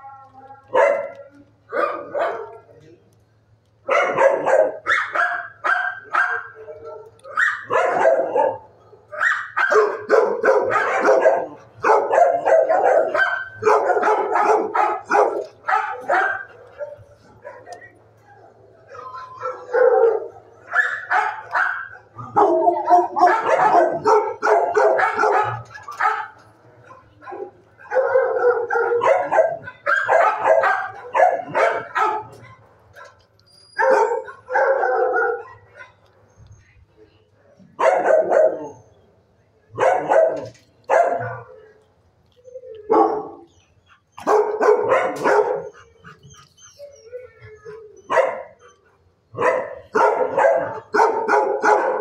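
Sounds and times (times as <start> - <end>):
dogs barking: 0.7 - 2.7, 3.8 - 36.2, 37.6 - 38.9, 39.7 - 41.7, 42.9 - 46.7, 47.7 - 52.0.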